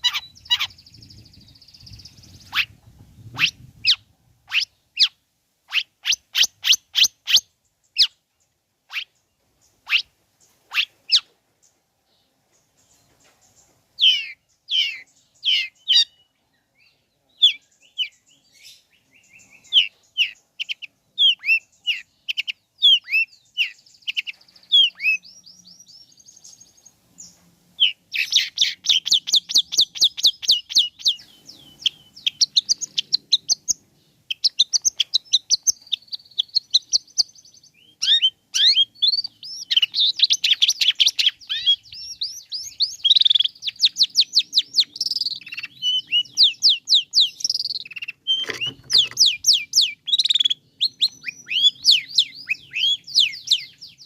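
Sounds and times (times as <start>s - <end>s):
shrike singing chirps and rattles: 0.0s - 8.2s, 17.4s - 54.0s.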